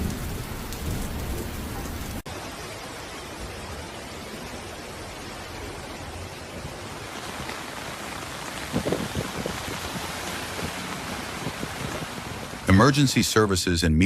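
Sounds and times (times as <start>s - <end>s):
heavy rain rushing: 0.0s - 14.0s.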